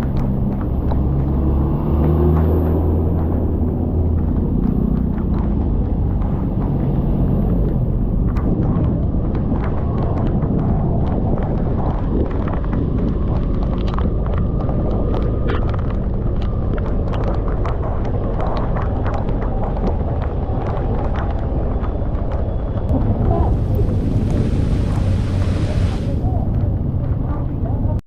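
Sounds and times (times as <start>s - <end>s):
raindrops ticking on microphone: 0.0s - 28.0s
wind buffeting microphone: 0.0s - 28.0s.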